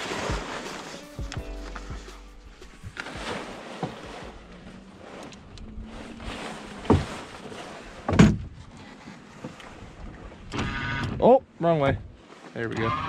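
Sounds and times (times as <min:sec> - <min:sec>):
wind and water noise: 0:00.0 - 0:01.0, 0:02.5 - 0:13.0.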